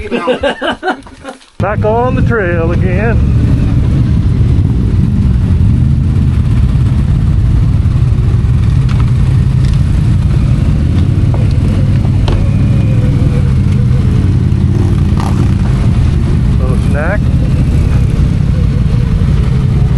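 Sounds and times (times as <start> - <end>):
atv engine running: 1.6 - 19.9.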